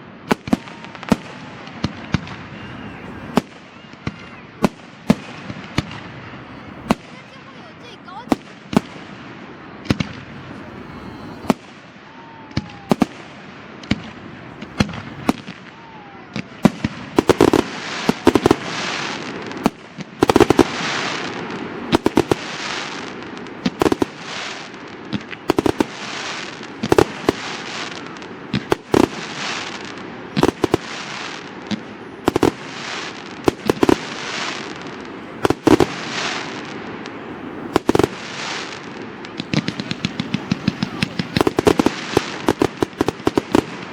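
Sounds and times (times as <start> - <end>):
firework bursts with crackling hiss: 0.0 - 43.9
faint firework whistles: 0.2 - 43.9.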